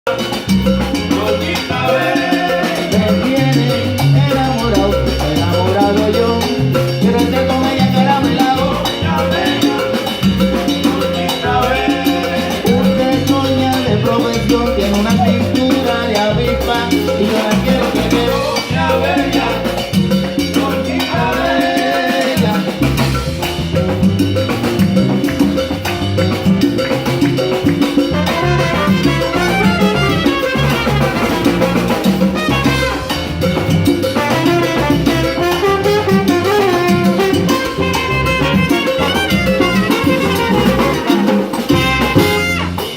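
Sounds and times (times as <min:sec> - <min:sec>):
live salsa band playing: 0:00.0 - 0:42.9.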